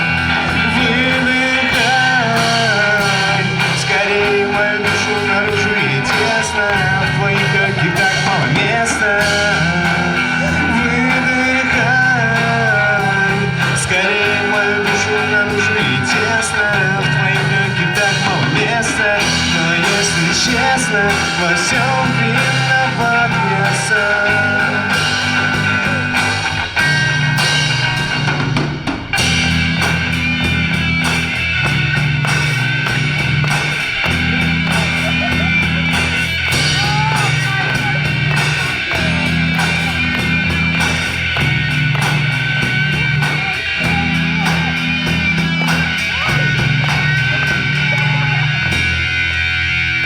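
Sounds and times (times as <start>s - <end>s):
bass guitar: 0.0s - 50.0s
drum kit: 0.0s - 50.0s
electric guitar: 0.0s - 50.0s.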